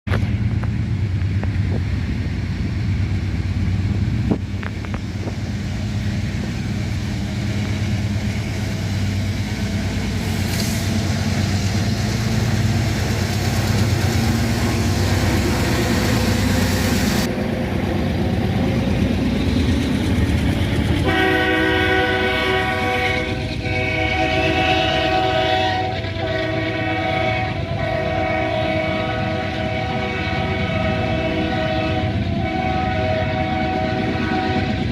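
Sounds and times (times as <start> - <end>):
diesel locomotive engine rumble: 0.1 - 34.9.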